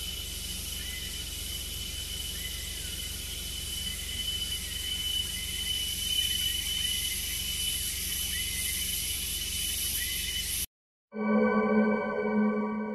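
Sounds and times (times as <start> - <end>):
insect hiss: 0.0 - 10.7
steady high-pitched insect tone: 0.0 - 10.7.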